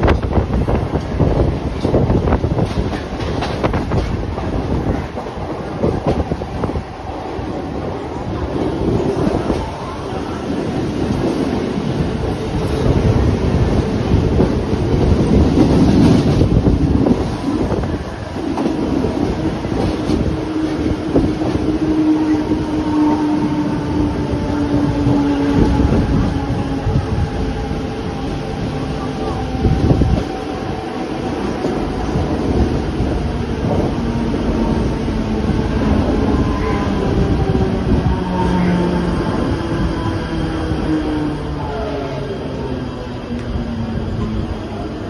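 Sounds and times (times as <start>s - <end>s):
train wheels rumbling on tracks: 0.0s - 45.0s.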